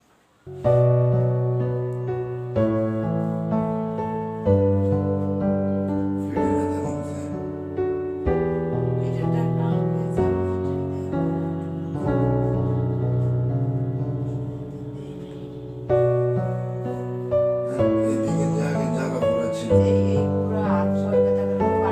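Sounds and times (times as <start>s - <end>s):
piano playing slow chords: 0.4s - 21.9s.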